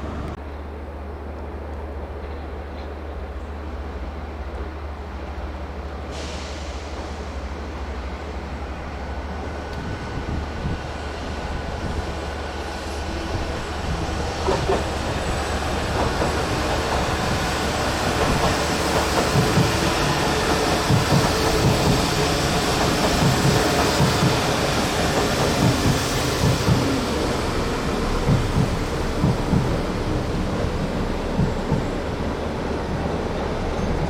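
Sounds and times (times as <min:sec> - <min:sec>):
diesel locomotive engine drone: 0:00.0 - 0:34.0
train wheels on rails: 0:00.0 - 0:34.0.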